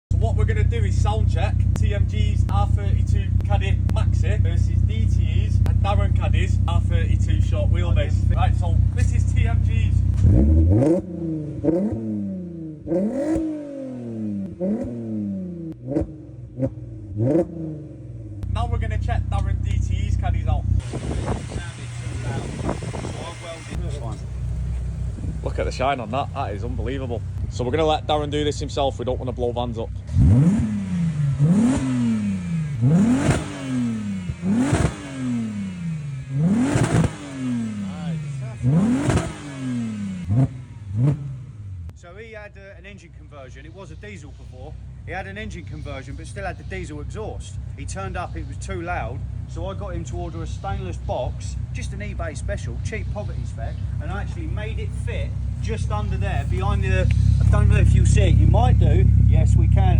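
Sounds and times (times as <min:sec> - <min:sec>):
car engine revving: 0:00.1 - 0:42.0, 0:43.8 - 0:59.9
exhaust crackle: 0:00.1 - 0:42.0, 0:43.0 - 0:59.9.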